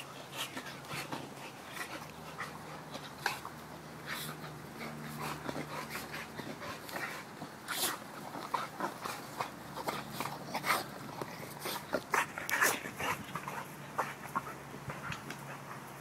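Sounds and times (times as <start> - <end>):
dog mouth and throat noises: 0.0 - 16.0
dogs panting: 0.0 - 16.0.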